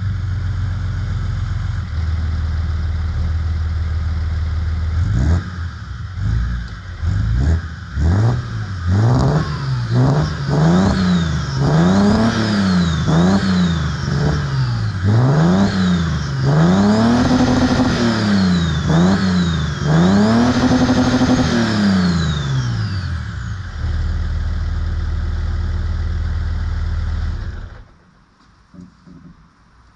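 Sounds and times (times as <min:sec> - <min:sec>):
diesel engine revving and idling: 0:00.0 - 0:27.9.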